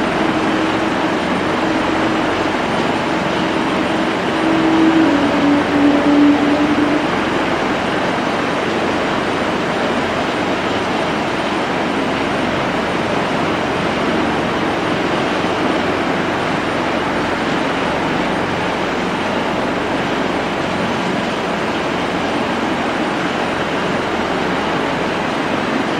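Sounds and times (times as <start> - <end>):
jet engines at taxi power: 0.0 - 25.9.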